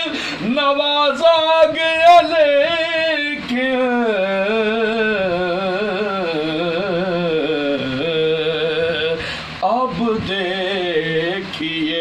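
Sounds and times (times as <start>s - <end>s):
man singing long ornamented note: 0.0s - 12.0s.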